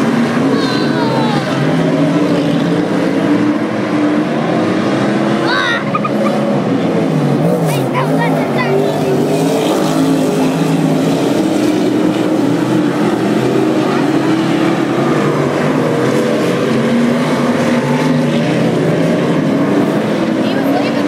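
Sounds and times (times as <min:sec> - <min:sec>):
race car engines roaring: 0:00.0 - 0:21.0.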